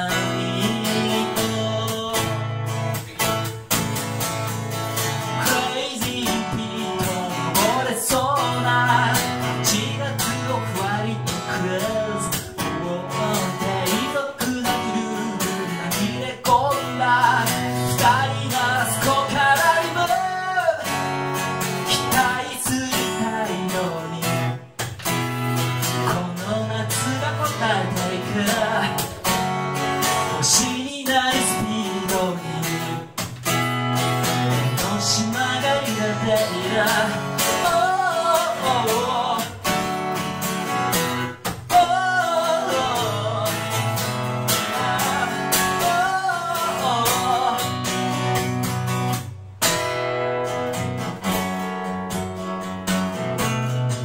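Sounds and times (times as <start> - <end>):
man singing: 0.0 - 3.7, 5.0 - 24.8, 25.6 - 48.7
acoustic guitar strumming: 0.0 - 54.0.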